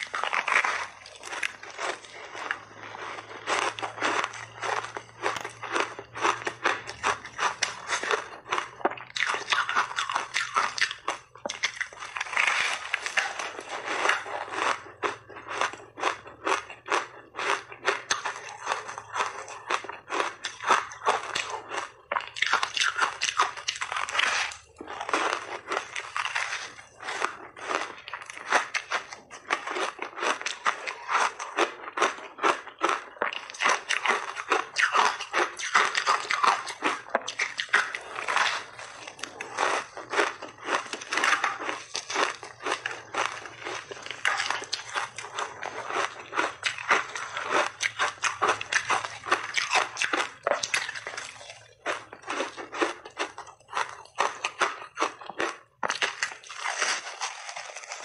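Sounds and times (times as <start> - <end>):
crunching and chewing ice: 0.0 - 58.0.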